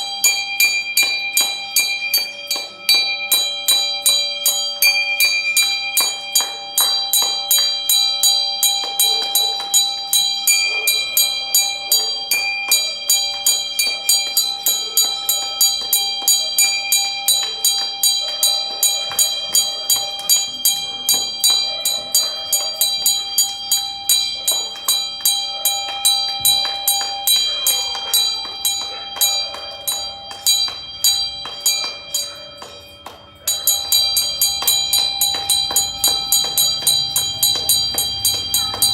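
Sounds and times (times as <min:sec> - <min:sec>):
metal bell ringing: 0:00.0 - 0:38.9.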